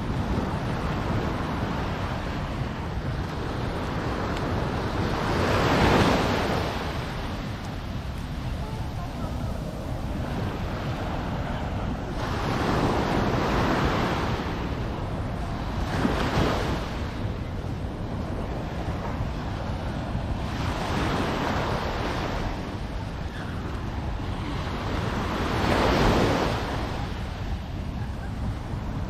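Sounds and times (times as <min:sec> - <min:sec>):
waves washing onto beach: 0:00.0 - 0:29.0
wind rumble on microphone: 0:00.0 - 0:29.0.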